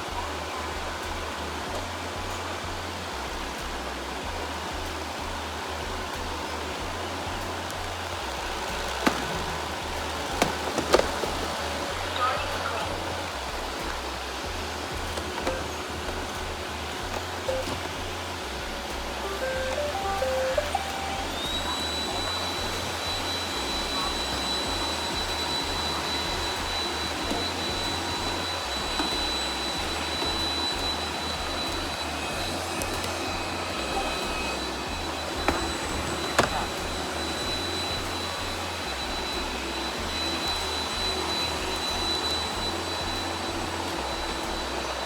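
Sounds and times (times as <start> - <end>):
robot vacuum cleaner running: 0.0 - 45.0.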